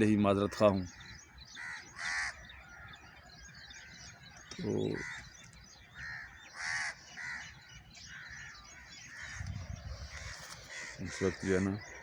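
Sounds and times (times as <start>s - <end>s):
small birds chirping: 0.0s - 12.0s
crows cawing: 0.4s - 12.0s.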